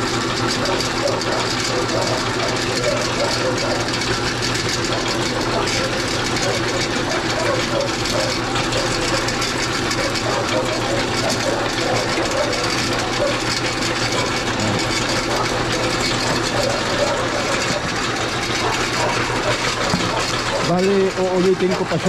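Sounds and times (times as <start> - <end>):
electric meat grinder running: 0.0 - 22.0.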